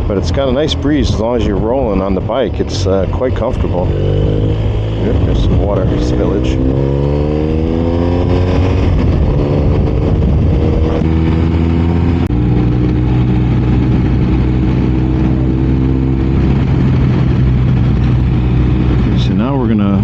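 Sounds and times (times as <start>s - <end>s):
wind rush: 0.0s - 20.0s.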